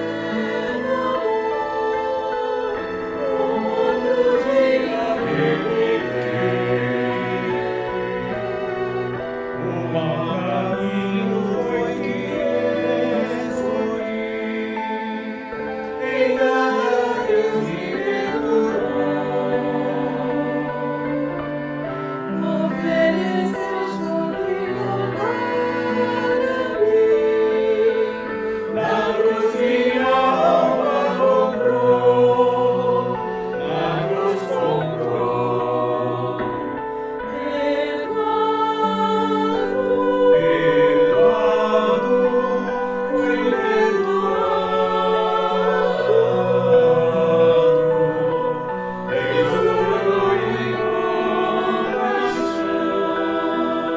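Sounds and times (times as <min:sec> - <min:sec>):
church choir singing: 0:00.0 - 0:53.9.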